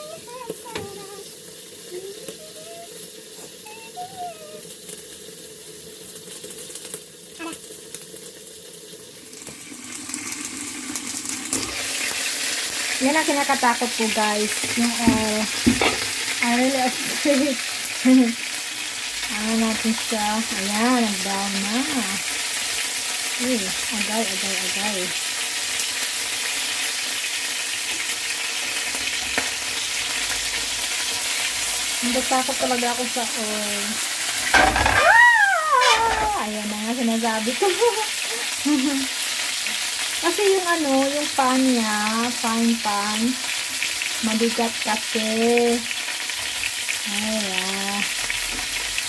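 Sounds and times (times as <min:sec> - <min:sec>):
oil sizzling with crackling pops: 0:00.0 - 0:49.0.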